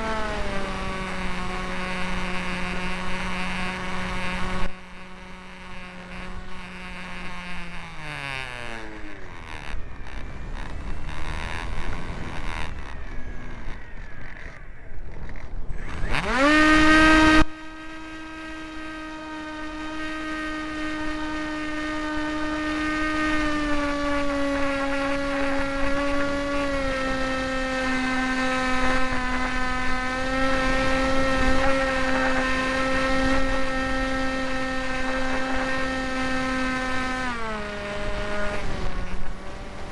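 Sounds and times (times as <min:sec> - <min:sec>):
model plane motor whine: 0:00.0 - 0:39.9
wind noise: 0:00.0 - 0:39.9.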